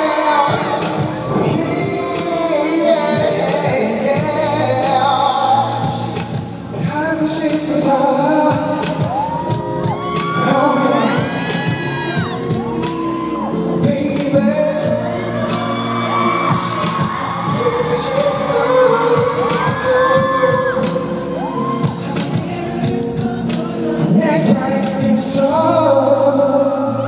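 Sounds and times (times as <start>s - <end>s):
dance backing track with beat: 0.0s - 27.0s
man singing into microphone: 0.0s - 27.0s.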